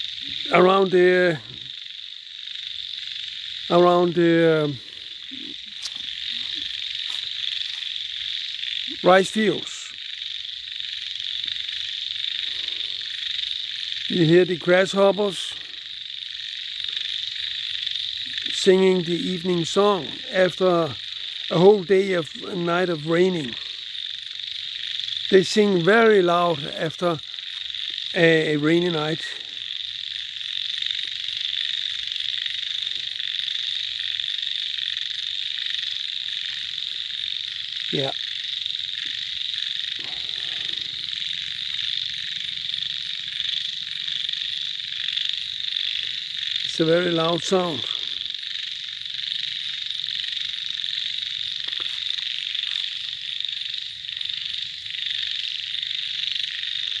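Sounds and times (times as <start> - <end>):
chorus of calling animals: 0.0 - 57.0
insects trilling: 0.0 - 57.0.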